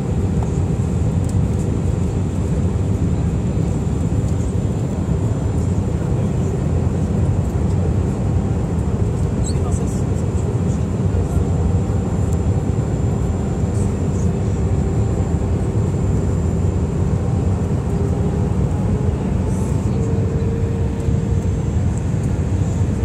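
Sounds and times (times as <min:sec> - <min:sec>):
airplane cabin roar: 0:00.0 - 0:23.0
faint humming tones: 0:00.0 - 0:23.0.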